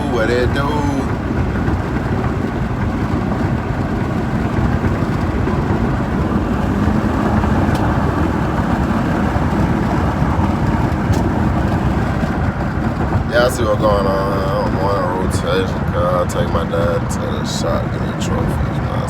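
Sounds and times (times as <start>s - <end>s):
road and engine noise in truck cab: 0.0s - 19.0s.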